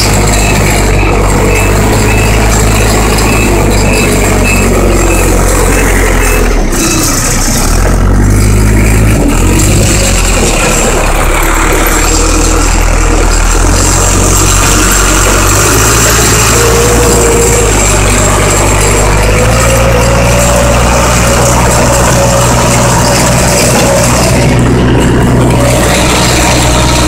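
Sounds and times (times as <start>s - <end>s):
forklift engine running: 0.0s - 27.0s
rising whine: 0.0s - 27.0s.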